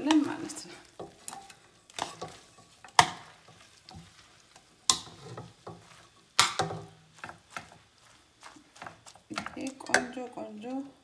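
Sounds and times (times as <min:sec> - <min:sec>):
light sizzle of frying: 0:00.0 - 0:11.0.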